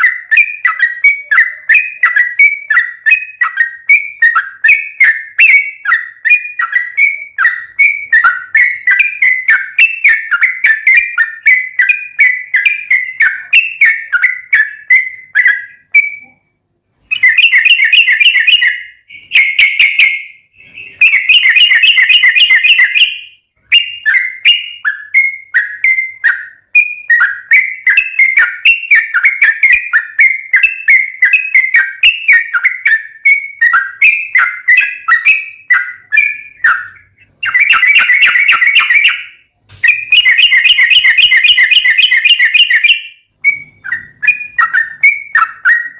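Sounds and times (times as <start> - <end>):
bird singing loudly: 0.0 - 45.9.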